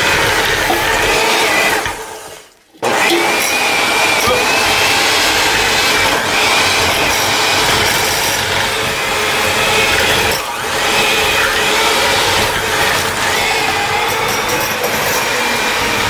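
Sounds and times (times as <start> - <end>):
electric hand mixer running: 0.0 - 16.0.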